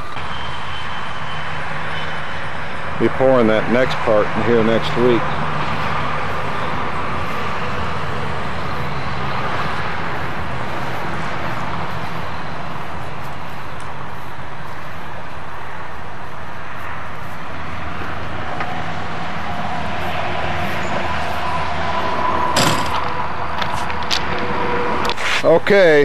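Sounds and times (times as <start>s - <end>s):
engine running steadily: 0.0s - 21.5s.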